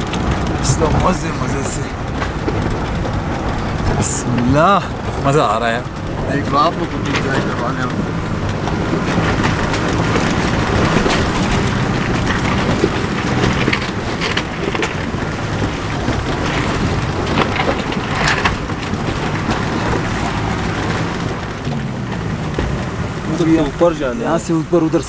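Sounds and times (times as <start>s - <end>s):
rocks knocking: 0.0s - 23.9s
tyres crunching over stones: 0.0s - 24.6s
vehicle engine under load: 0.0s - 25.0s.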